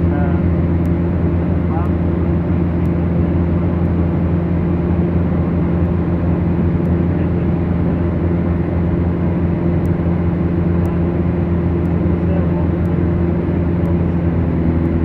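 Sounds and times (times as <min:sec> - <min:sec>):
light aircraft engines droning: 0:00.0 - 0:15.0.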